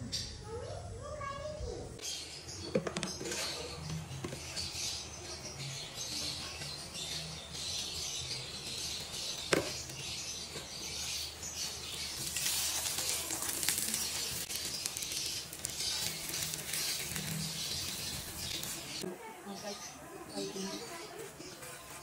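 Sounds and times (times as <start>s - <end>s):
butter sizzling and crackling: 2.4s - 22.0s.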